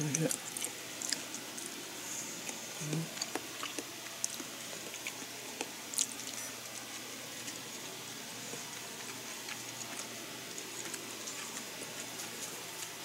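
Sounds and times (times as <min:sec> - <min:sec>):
person chewing food: 0:00.1 - 0:13.0.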